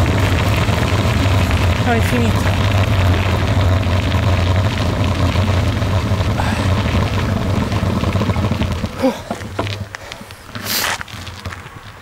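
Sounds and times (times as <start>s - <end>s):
tyres rolling on gravel: 0.0s - 12.0s
vehicle engine humming: 0.0s - 12.0s.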